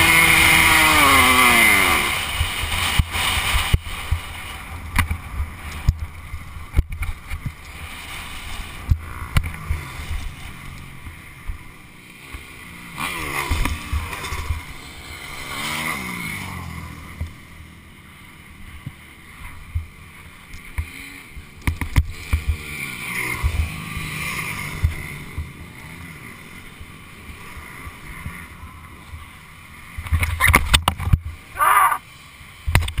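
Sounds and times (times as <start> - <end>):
dirt bike engines passing by: 0.0 - 33.0.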